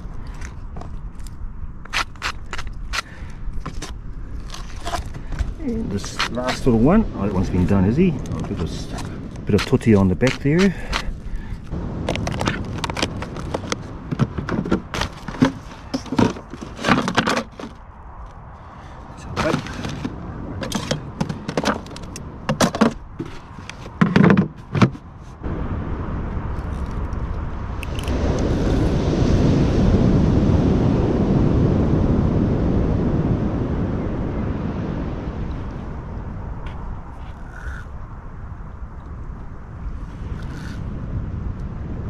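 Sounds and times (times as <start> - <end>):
steady rushing noise: 0.0 - 42.0.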